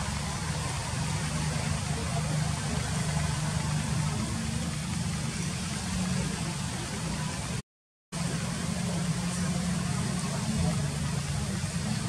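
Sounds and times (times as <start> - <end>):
low engine hum: 0.0 - 7.6, 8.2 - 12.0.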